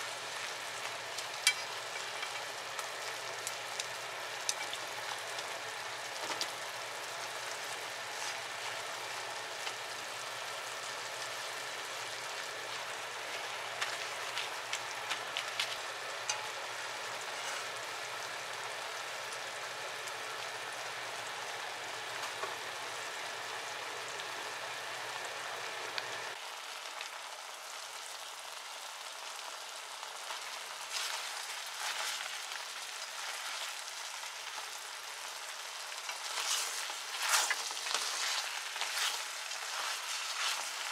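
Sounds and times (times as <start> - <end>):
sauce bubbling in a frying pan: 0.0 - 40.9.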